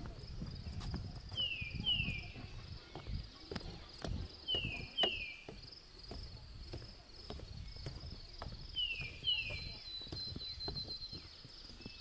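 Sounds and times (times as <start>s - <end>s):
footsteps on wooden boardwalk: 0.0s - 12.0s.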